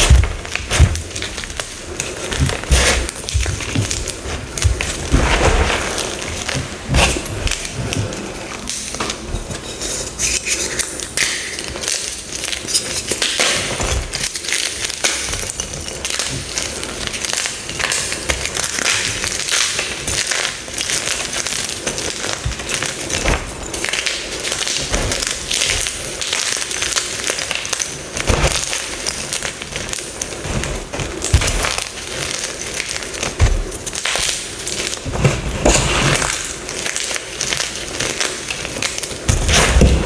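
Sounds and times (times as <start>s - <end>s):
chalk blocks crunching: 0.0s - 40.0s.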